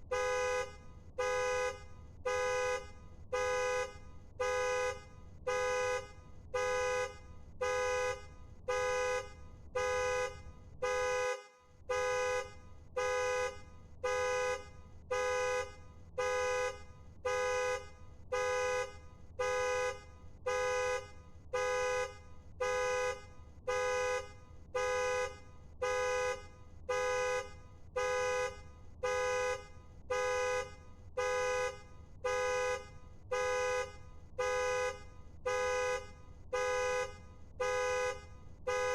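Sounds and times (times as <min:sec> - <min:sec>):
car horn honking: 0:00.0 - 0:38.9.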